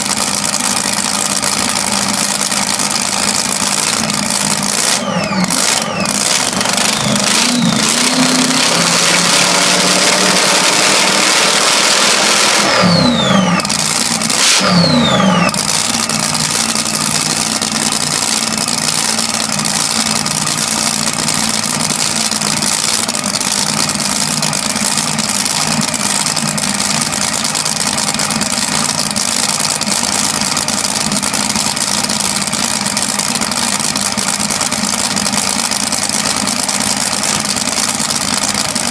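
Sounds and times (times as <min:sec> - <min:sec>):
drag car engine idling and revving: 0:00.0 - 0:38.9.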